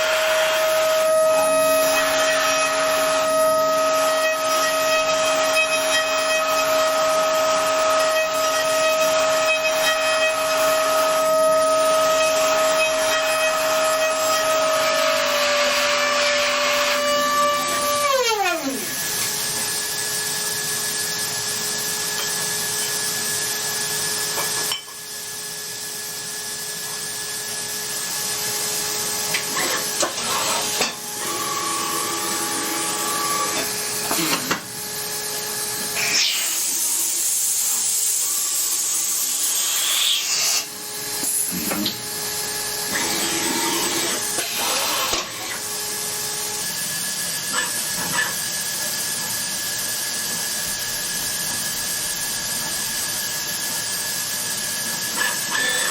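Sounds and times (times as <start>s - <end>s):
machine cutting with hiss and whine: 0.0s - 55.9s.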